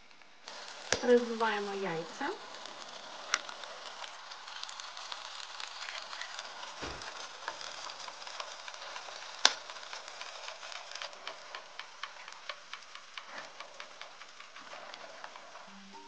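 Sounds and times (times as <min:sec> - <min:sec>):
vegetables sizzling in frying pan: 0:00.0 - 0:16.0.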